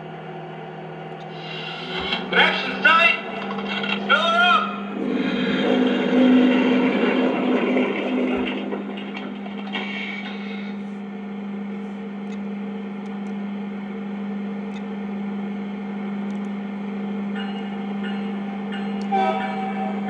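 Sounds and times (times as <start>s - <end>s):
model train hum: 0.0s - 20.0s.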